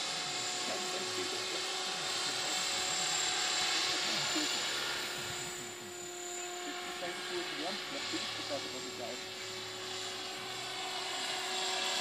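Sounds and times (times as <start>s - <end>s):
rc helicopter motor and rotor whine: 0.0s - 12.0s.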